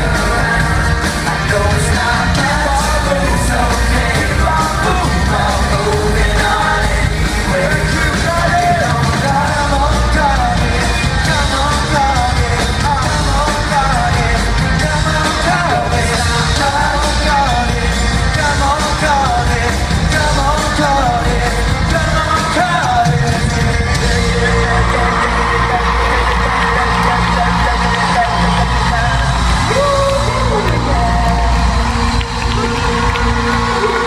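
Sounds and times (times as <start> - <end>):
live band with bass and drums: 0.0 - 34.0
voices singing: 0.0 - 34.0.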